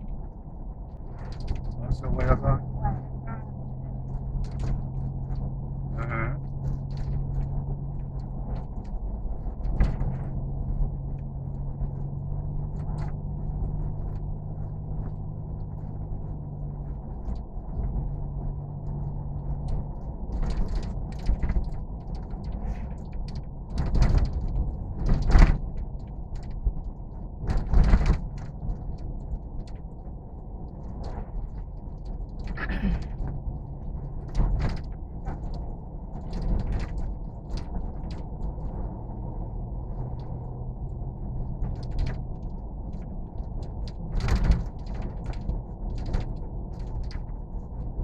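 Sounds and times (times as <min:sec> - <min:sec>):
light clicks and rattles: 0:00.0 - 0:48.0
vehicle cabin rumble: 0:00.0 - 0:48.0.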